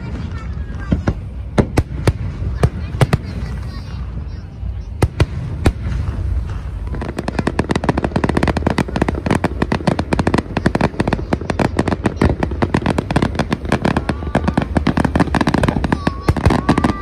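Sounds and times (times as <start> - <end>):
fireworks bangs and cracks: 0.0 - 17.0
low rumble: 0.0 - 17.0.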